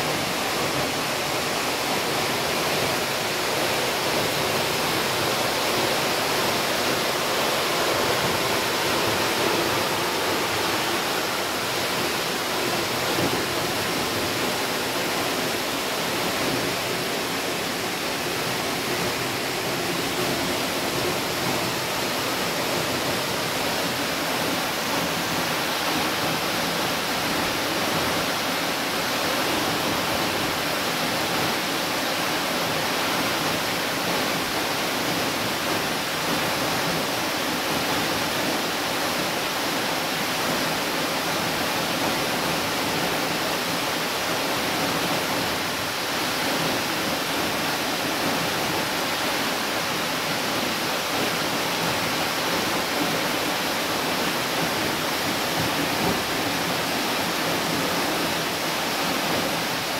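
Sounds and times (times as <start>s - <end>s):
waterfall rushing into pool: 0.0s - 59.9s.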